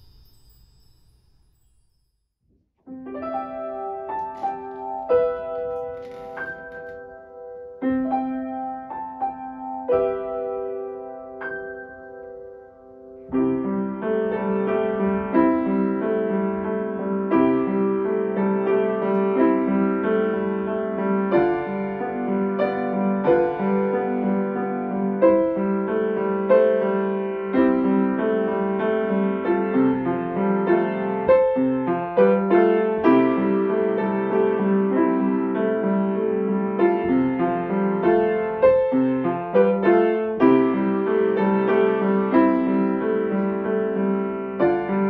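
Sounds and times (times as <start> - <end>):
grand piano playing: 2.9 - 45.0.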